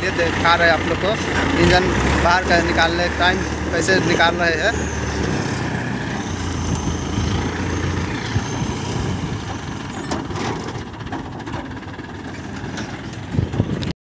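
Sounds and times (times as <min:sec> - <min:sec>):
diesel engine idling: 0:00.0 - 0:13.9.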